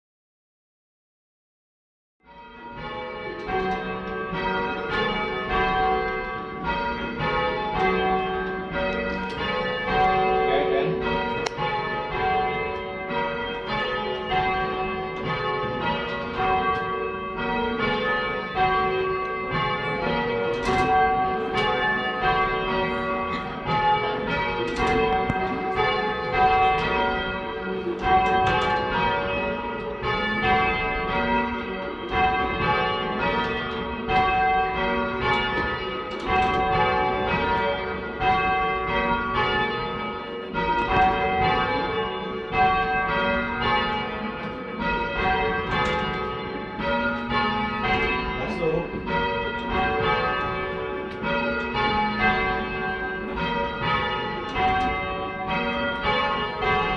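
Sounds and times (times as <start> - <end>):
church bells change ringing: 2.3 - 56.9.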